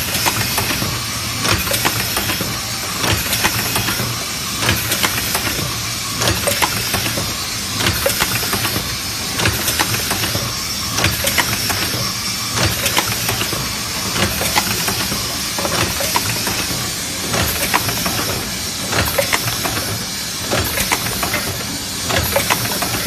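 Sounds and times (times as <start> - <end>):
machine hum and hiss: 0.0 - 23.0
mechanical clicks and knocks: 0.0 - 23.0.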